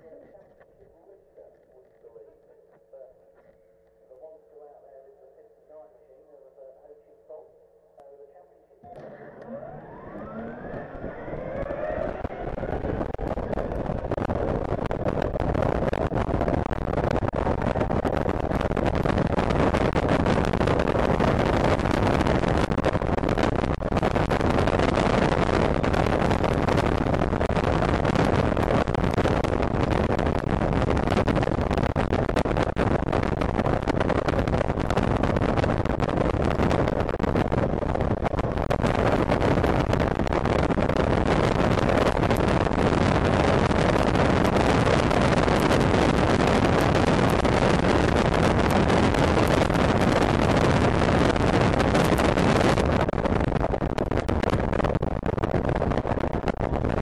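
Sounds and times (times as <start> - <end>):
wind buffeting microphone: 8.8 - 57.0.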